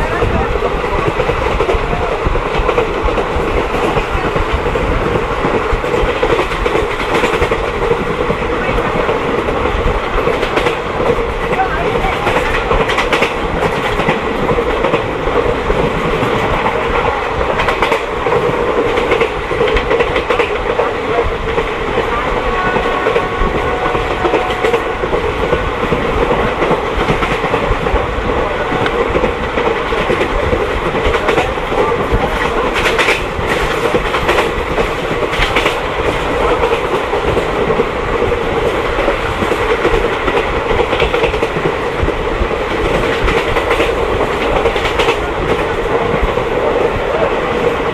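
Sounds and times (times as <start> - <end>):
train rumbling: 0.0 - 47.9.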